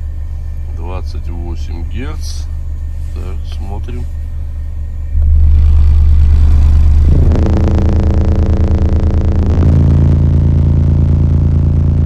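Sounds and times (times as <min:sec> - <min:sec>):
loud bass test tone: 0:00.0 - 0:12.0.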